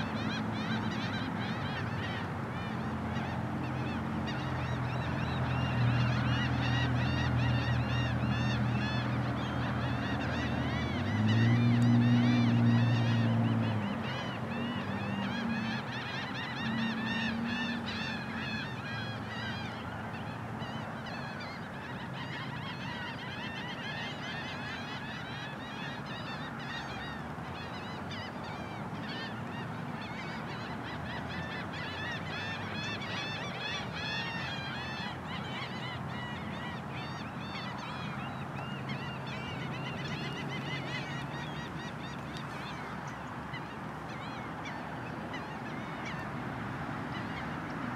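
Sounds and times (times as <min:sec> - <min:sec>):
flock of birds calling: 0:00.0 - 0:47.9.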